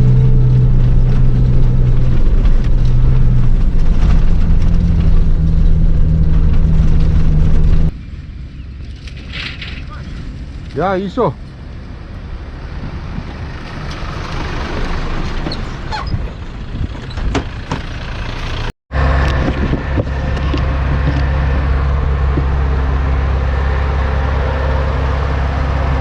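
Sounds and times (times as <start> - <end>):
rough road noise: 0.0 - 26.0
vehicle engine drone: 0.0 - 26.0.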